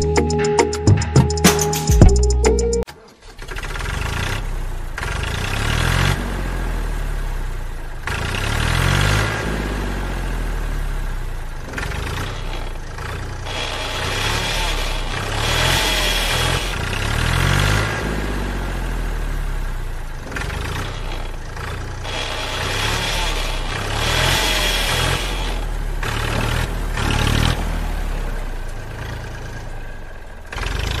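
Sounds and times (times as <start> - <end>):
tractor engine revving: 1.0 - 31.0.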